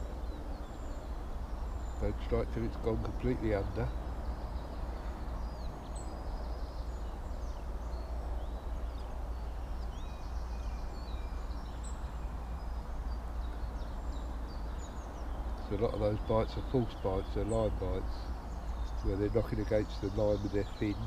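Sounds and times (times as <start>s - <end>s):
birds chirping: 0.0s - 21.0s
low outdoor rumble: 0.0s - 21.0s.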